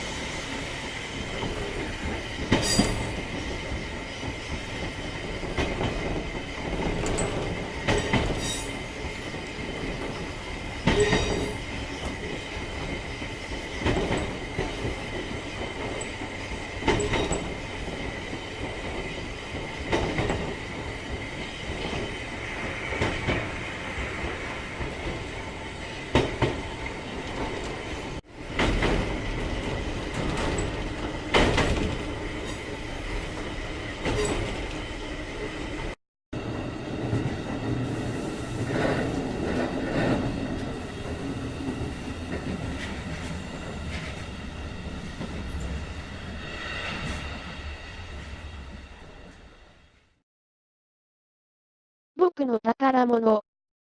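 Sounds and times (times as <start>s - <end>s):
electric train rumbling with whine: 0.0s - 50.2s.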